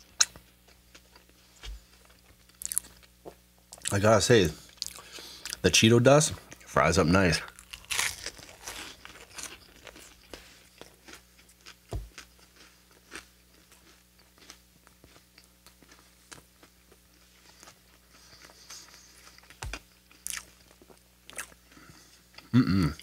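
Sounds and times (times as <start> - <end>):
person chewing crunchy food: 0.0 - 5.6, 7.4 - 23.0
faint low hum: 0.0 - 23.0.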